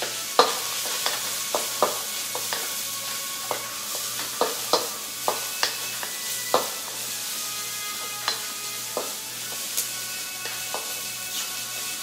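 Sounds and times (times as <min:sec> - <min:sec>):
utensil clacking against pan: 0:00.0 - 0:02.8, 0:03.4 - 0:07.0, 0:07.9 - 0:11.5
food sizzling in a wok: 0:00.0 - 0:12.0.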